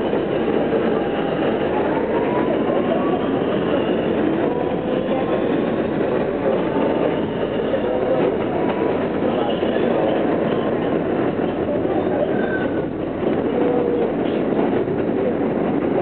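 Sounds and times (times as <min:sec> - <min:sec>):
subway car running: 0:00.0 - 0:16.0.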